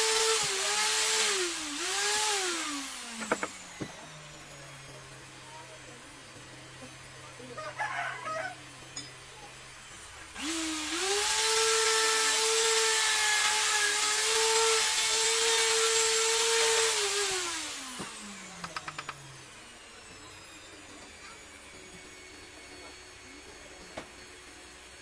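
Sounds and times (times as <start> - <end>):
electric drill whining: 0.0 - 7.6, 8.5 - 25.0.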